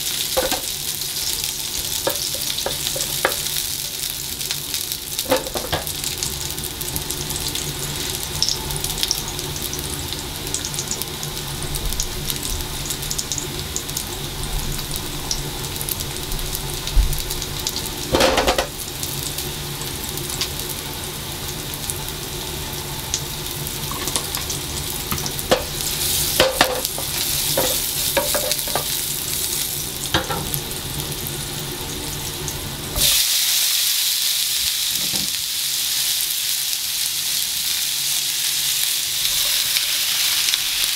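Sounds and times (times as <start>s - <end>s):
garlic sizzling in oil: 0.0s - 40.9s
vegetables stir-frying: 0.0s - 40.9s.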